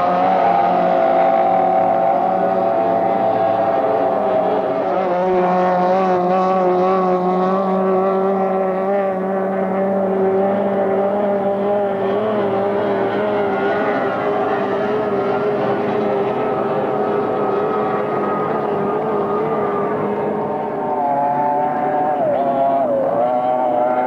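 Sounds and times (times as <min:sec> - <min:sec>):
outboard motors at high revs: 0:00.0 - 0:24.0.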